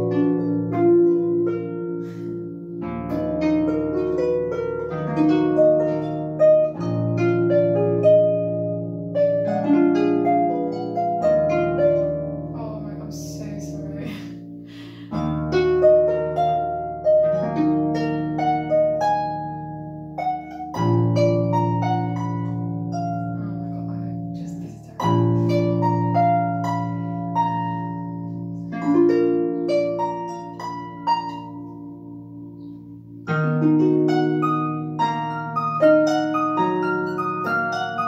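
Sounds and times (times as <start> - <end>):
harp playing: 0.0 - 38.0.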